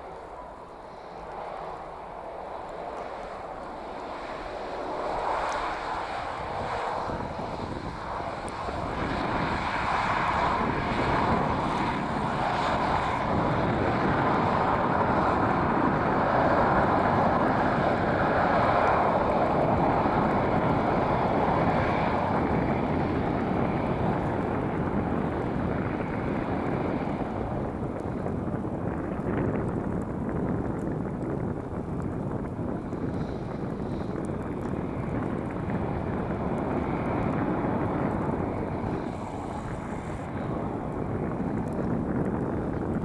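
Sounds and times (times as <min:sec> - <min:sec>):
jet airliner landing roar: 0:00.0 - 0:43.0
wind rumbling on microphone: 0:00.0 - 0:43.0.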